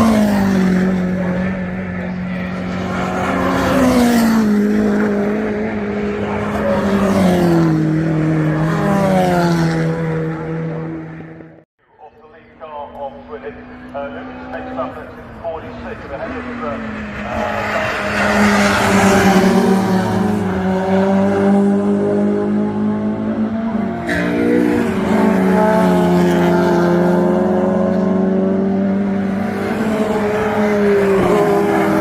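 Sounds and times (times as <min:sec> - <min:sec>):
race car engines at high revs: 0:00.0 - 0:11.6, 0:12.4 - 0:32.0.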